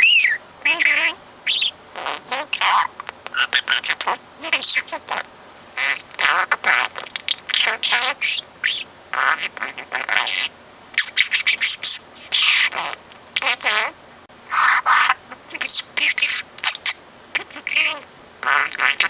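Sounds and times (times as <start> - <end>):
budgerigar chattering: 0.0 - 5.2, 5.8 - 19.0.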